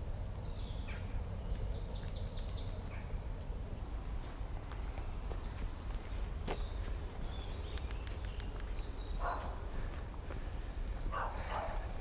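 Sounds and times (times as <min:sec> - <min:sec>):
low outdoor noise: 0:00.0 - 0:12.0
songbird singing: 0:00.0 - 0:12.0.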